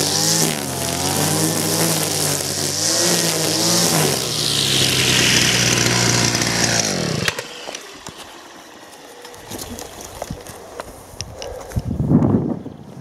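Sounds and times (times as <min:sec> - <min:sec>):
brushcutter cutting grass: 0:00.0 - 0:11.2.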